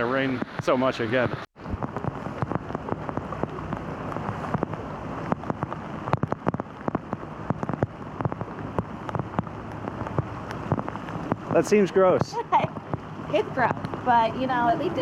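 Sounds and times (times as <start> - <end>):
heavy rain falling: 0.0 - 15.0
rain drops hitting close by: 0.0 - 15.0.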